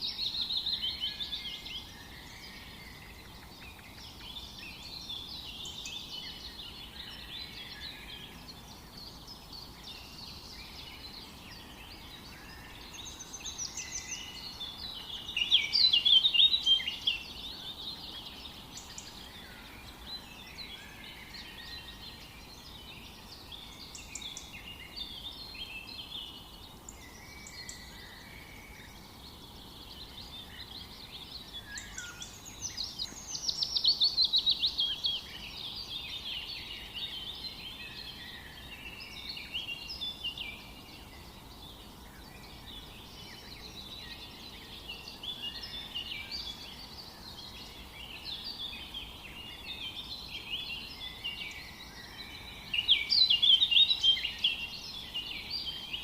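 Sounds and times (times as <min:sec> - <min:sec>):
birds chirping and warbling: 0:00.0 - 0:56.0
faint steady hiss: 0:00.0 - 0:56.0.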